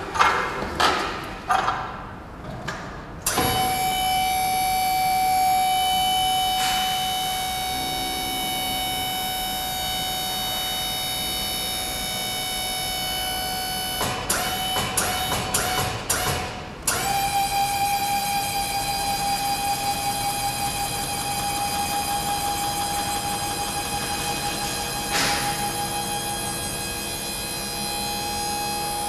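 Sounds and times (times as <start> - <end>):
hydraulic drive whining: 3.2 - 29.0.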